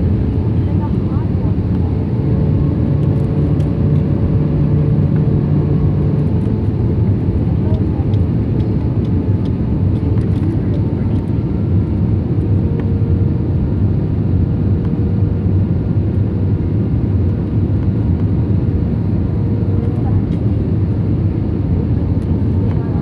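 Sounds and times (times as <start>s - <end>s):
faint constant hum: 0.0s - 23.0s
jet engine cabin rumble: 0.0s - 23.0s.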